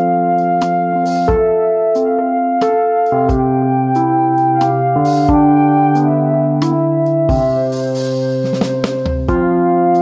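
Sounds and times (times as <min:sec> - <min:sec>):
keyboard chords: 0:00.0 - 0:10.0.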